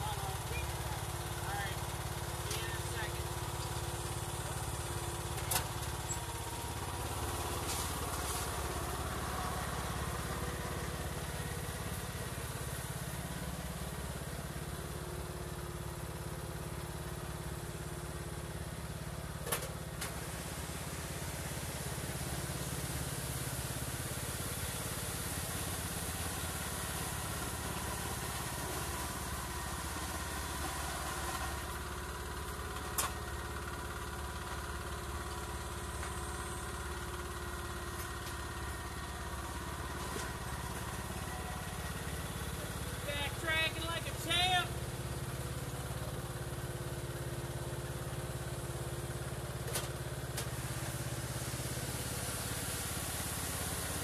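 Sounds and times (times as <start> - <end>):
lawn tractor engine running: 0.0 - 54.0.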